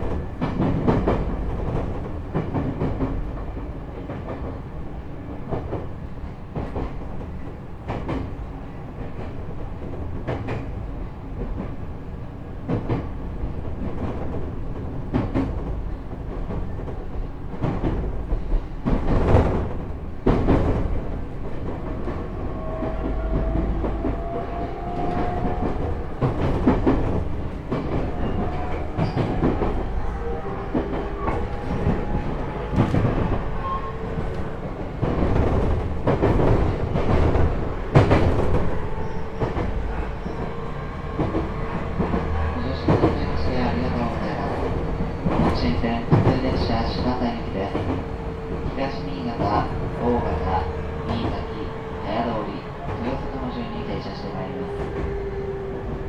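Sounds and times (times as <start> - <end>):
rail-joint clacks: 0.0 - 56.0
train running rumble: 0.0 - 56.0.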